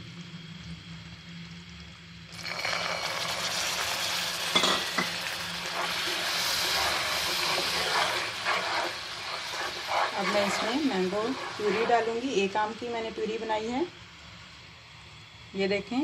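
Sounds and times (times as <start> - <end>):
syrup bubbling and sizzling: 0.0 - 15.5.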